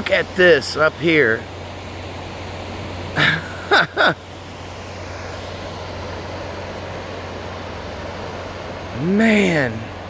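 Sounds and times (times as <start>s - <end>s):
wake surging onto shore: 0.0s - 10.0s.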